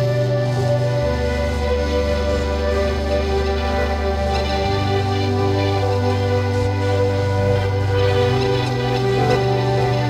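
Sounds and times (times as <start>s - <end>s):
ambient music with sustained tones: 0.0s - 10.0s.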